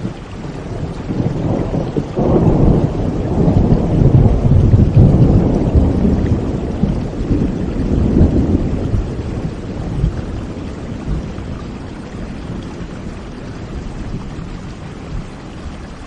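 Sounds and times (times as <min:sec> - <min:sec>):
rushing water with deep rumble: 0:00.0 - 0:16.0.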